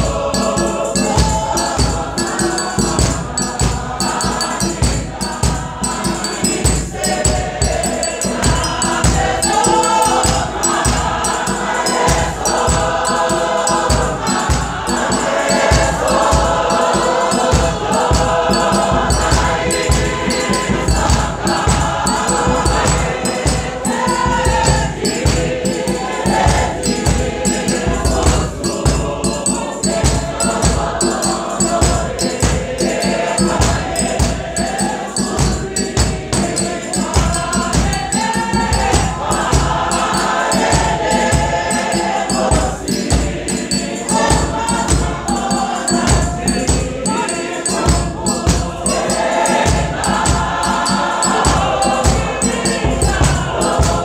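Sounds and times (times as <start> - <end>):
congregation singing a hymn: 0.0 - 54.0
steady beat: 0.0 - 54.0.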